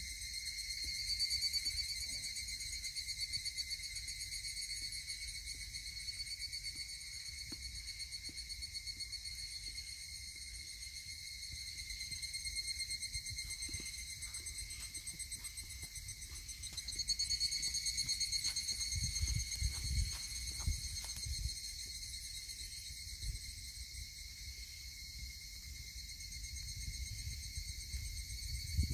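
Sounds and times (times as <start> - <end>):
cicadas calling: 0.0 - 28.9.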